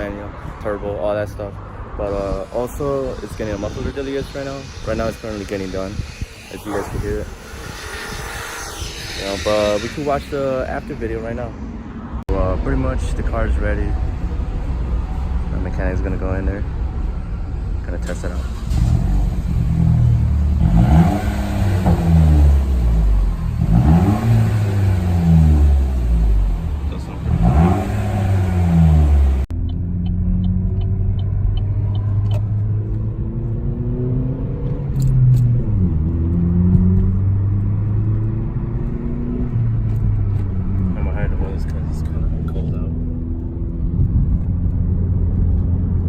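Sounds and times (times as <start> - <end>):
car engine revving: 0.7 - 13.8, 18.0 - 46.0.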